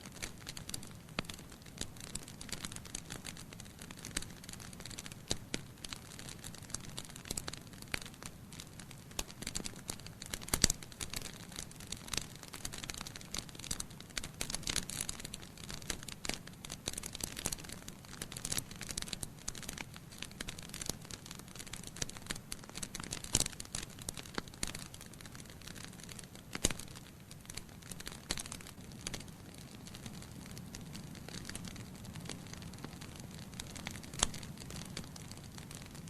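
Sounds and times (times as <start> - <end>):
logs crackling and popping: 0.0 - 36.0
rumble of flames: 0.1 - 36.0.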